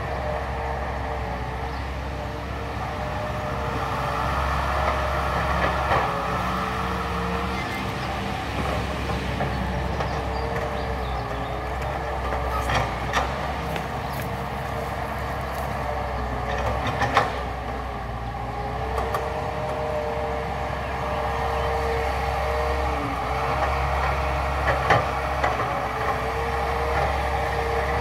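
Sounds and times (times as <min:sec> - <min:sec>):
excavator engine and hydraulics whining: 0:00.0 - 0:28.0.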